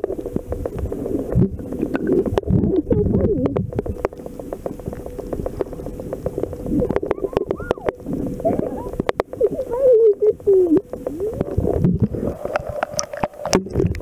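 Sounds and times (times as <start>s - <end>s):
faint steady hum: 0.0s - 14.0s
sharp clicks and crackles: 0.0s - 14.0s
underwater rumble of moving water: 0.0s - 14.0s.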